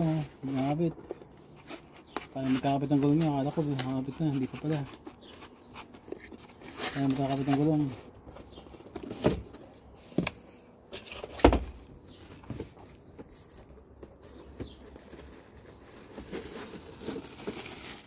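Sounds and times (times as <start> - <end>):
plastic wrapping rustling: 0.0 - 10.0, 12.1 - 18.0.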